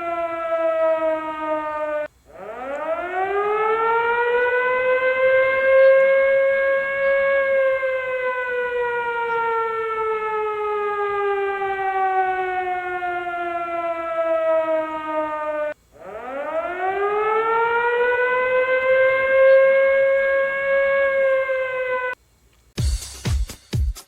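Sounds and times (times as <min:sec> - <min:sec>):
siren wailing: 0:00.0 - 0:22.2.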